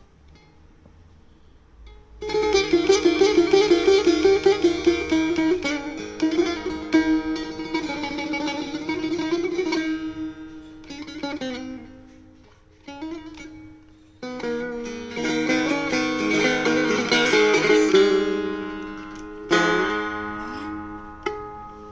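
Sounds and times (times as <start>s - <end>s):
plucked lute solo: 1.8s - 21.9s.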